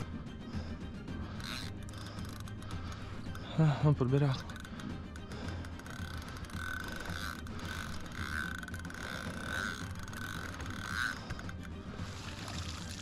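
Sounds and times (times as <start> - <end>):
fishing reel clicking: 1.2 - 13.0.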